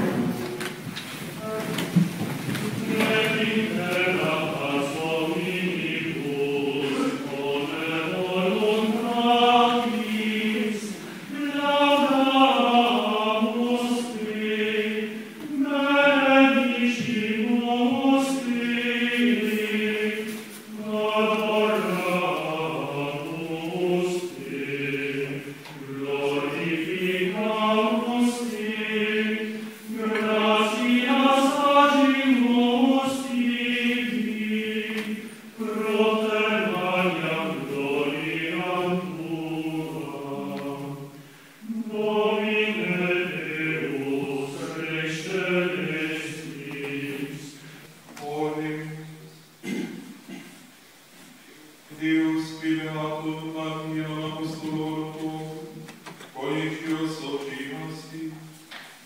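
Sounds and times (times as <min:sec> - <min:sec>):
voices singing plainchant: 0:00.0 - 0:59.0.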